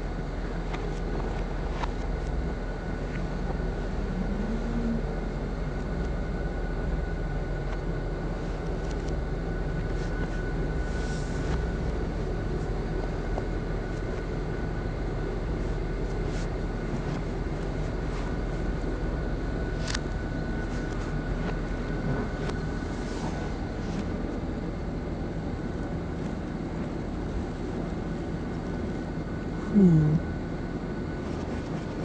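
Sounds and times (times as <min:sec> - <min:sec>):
low rumble and hiss: 0:00.0 - 0:32.0.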